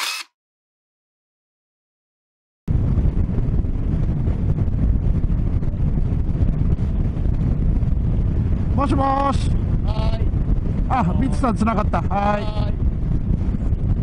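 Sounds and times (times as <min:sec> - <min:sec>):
motorcycle road and engine rumble: 0:02.7 - 0:14.0
wind buffeting microphone: 0:02.7 - 0:14.0.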